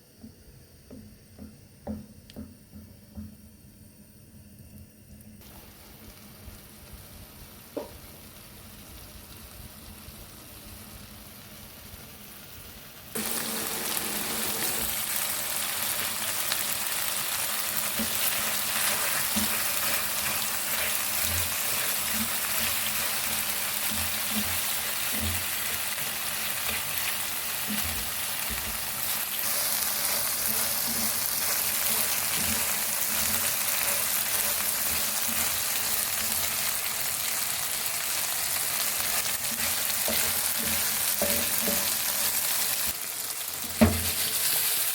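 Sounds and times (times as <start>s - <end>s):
food sizzling in frying pan: 5.4s - 44.9s.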